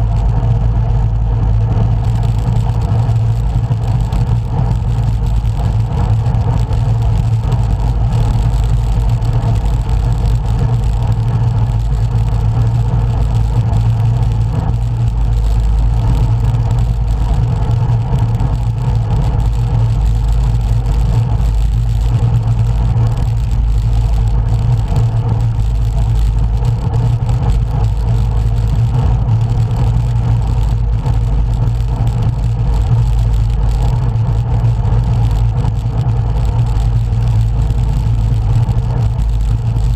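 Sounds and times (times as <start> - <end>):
road roar: 0.0 - 39.9.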